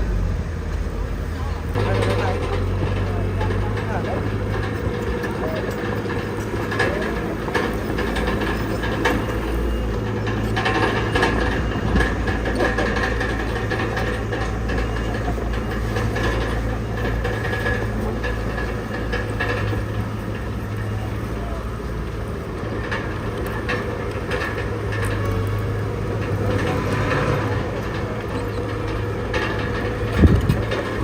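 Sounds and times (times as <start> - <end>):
bulldozer diesel engine running: 0.0 - 31.0
metallic clanks and rattles: 0.0 - 31.0.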